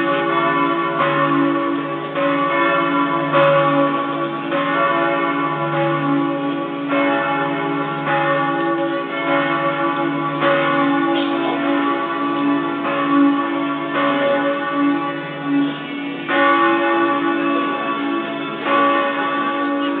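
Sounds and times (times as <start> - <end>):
church bells pealing: 0.0 - 20.0.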